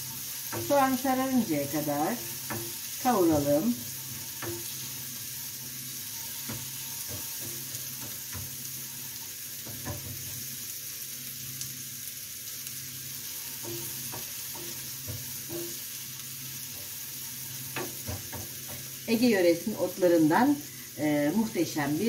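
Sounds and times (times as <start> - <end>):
onions sizzling in frying pan: 0.0 - 22.0.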